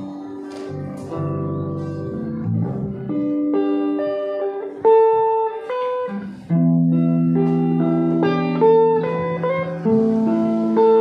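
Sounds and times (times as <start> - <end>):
live band instrumental with guitars: 0.0 - 11.0.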